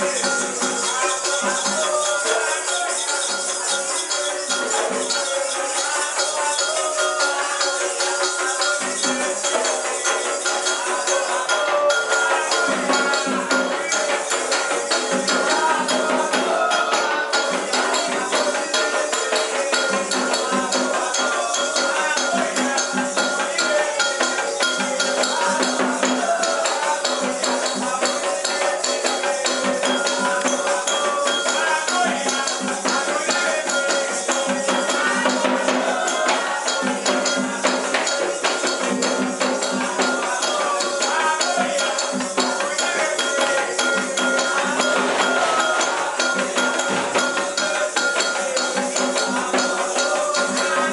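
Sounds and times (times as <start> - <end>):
shaken and struck percussion: 0.0 - 50.9
voices singing: 0.0 - 50.9.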